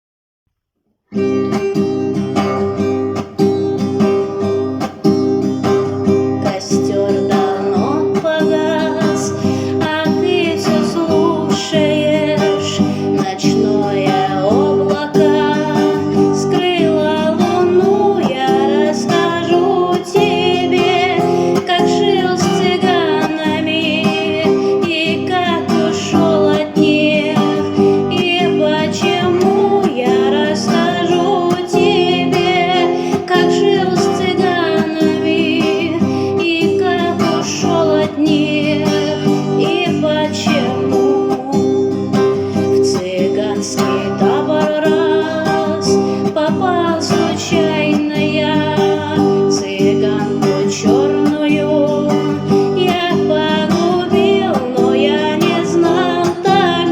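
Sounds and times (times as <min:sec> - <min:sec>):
acoustic guitar chords: 0:01.1 - 0:56.9
person singing: 0:05.6 - 0:56.9.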